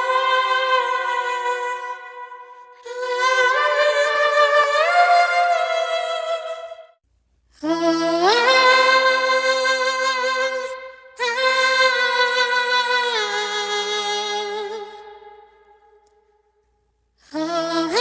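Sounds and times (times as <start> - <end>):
wordless a cappella singing: 0.0 - 7.0, 7.6 - 16.0, 17.2 - 18.0.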